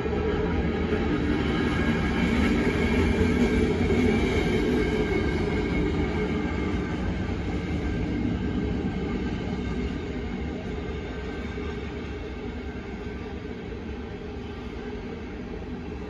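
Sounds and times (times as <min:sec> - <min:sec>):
freight train wheels rumbling on rail: 0:00.0 - 0:16.0.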